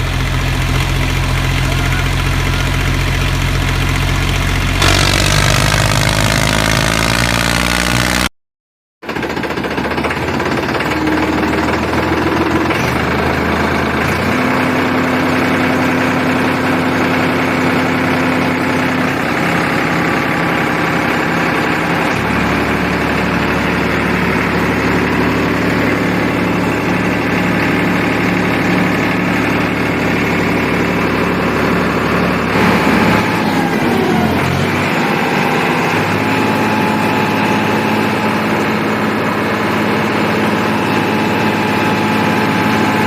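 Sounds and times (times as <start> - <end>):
tractor engine drone: 0.0 - 8.3, 9.1 - 43.0.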